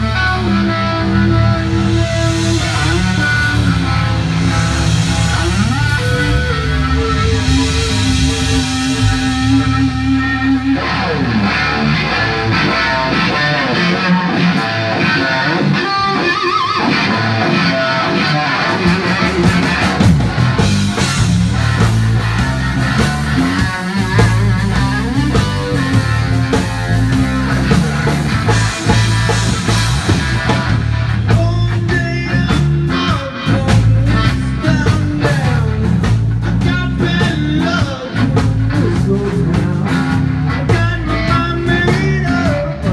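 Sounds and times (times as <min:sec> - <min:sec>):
blues-rock band playing: 0:00.0 - 0:42.9
electric guitar lead lines: 0:00.0 - 0:42.9.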